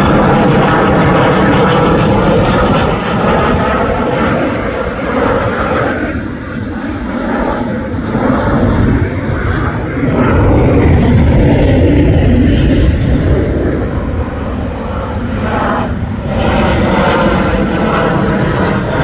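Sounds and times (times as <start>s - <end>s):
faint jet whine: 0.0s - 19.0s
jet plane passing low: 0.0s - 19.0s.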